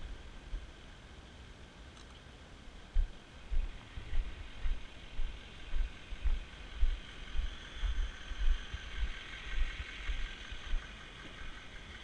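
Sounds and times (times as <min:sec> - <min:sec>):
steady vehicle noise: 0:00.0 - 0:12.0.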